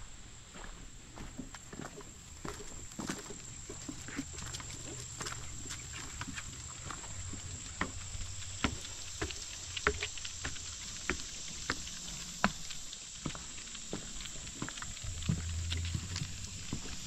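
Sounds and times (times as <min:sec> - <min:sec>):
footsteps on wooden boards: 0:00.6 - 0:17.0.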